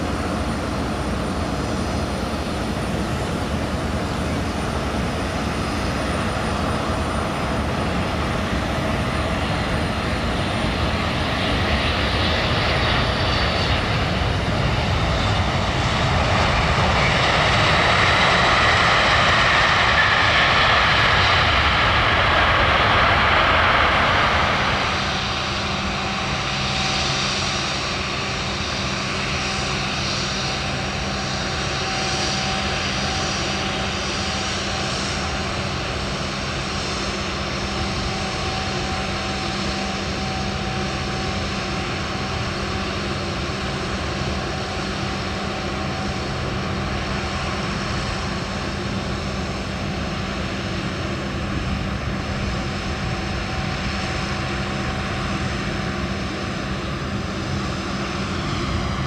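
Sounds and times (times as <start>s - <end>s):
jet engine whine: 0.0s - 59.0s
jet engines rushing: 0.0s - 59.0s.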